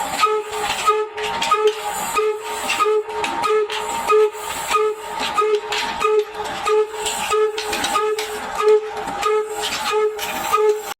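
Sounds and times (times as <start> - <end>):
diesel engine exhaust hooting: 0.0 - 10.9.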